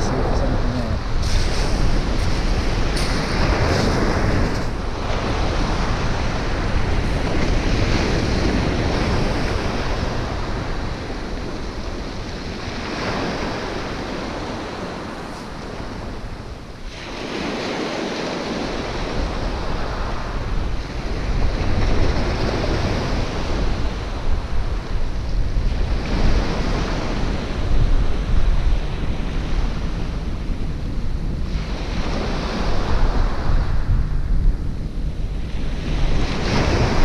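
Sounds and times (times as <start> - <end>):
sea waves breaking: 0.0 - 34.0, 35.2 - 37.0
wind on microphone: 0.0 - 37.0.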